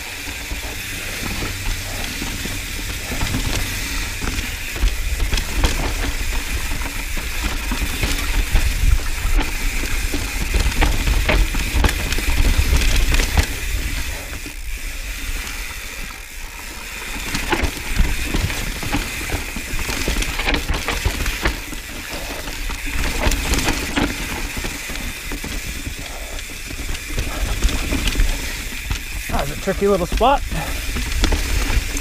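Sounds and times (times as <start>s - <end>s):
bike clattering over rocks: 0.0s - 32.0s
bike tyres rolling on dirt: 0.0s - 32.0s.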